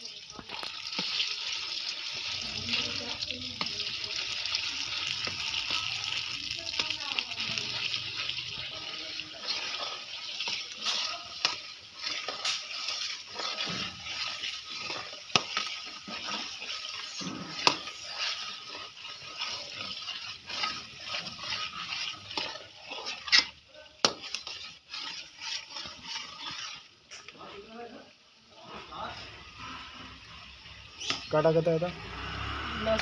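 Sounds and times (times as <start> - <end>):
onion paste sizzling in oil: 0.0 - 33.0
metal spatula scraping pot: 0.1 - 28.0, 28.6 - 33.0.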